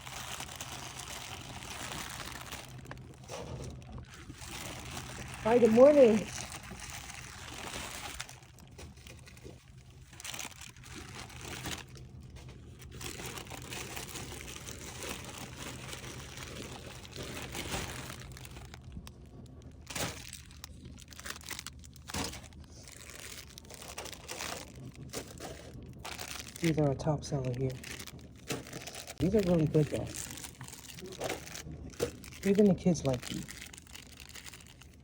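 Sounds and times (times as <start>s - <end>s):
plastic bags crinkling: 0.0s - 35.0s.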